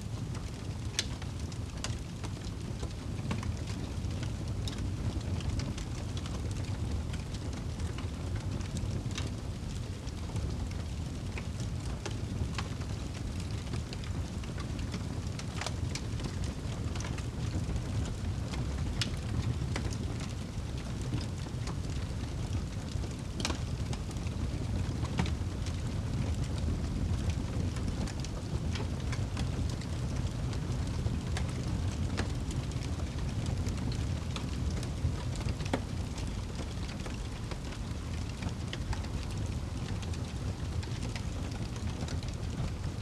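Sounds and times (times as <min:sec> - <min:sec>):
wood fire crackling: 0:00.0 - 0:43.0
fire pops and snaps: 0:00.1 - 0:43.0.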